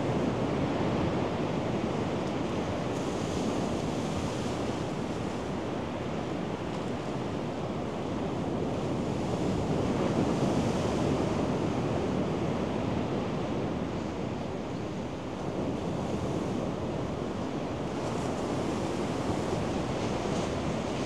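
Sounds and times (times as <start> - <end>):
ocean surf on sandy beach: 0.0 - 21.0.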